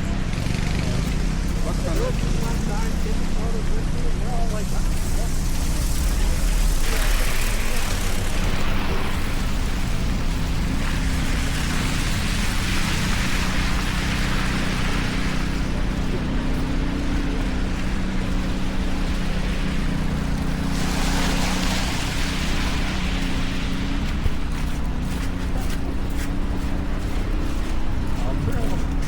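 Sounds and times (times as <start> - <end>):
low engine hum: 0.0 - 29.0
tyres hissing on wet pavement: 0.0 - 29.0.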